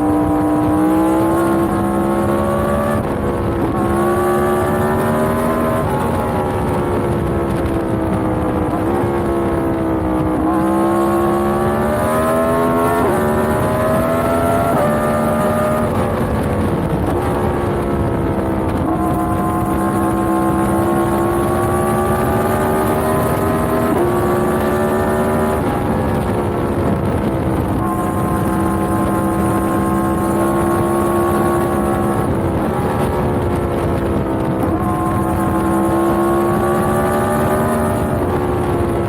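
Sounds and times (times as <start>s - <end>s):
motorcycle engine shifting gears: 0.0s - 39.0s.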